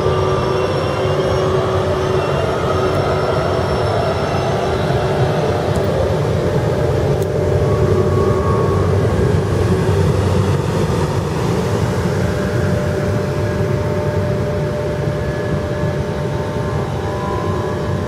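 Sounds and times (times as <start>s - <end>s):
electric train rolling past: 0.0s - 18.0s
steady humming tones: 0.0s - 18.0s.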